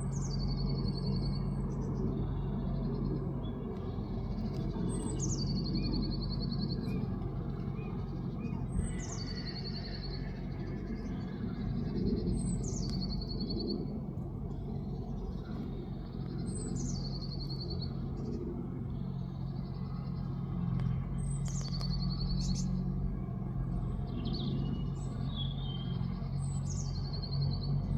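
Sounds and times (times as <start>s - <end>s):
songbird singing with trill: 0.0s - 13.9s, 14.5s - 23.0s, 23.8s - 27.9s
steady low hum: 0.0s - 27.9s.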